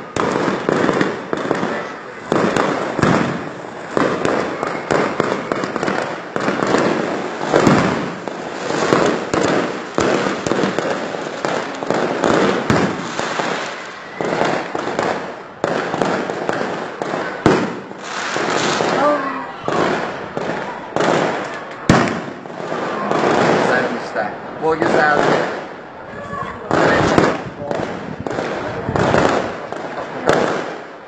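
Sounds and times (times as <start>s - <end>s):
sharp firework reports: 0.0s - 26.0s, 26.6s - 31.0s
fireworks bangs and crackling: 0.0s - 31.0s.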